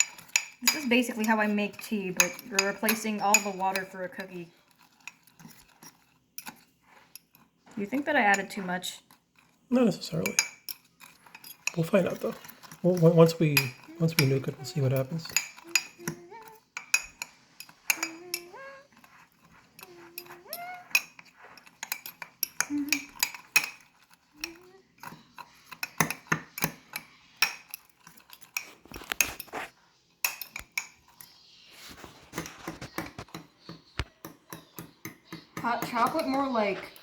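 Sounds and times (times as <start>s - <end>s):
fork clinking against a cup: 0.0s - 7.7s, 8.3s - 31.5s, 32.3s - 37.0s.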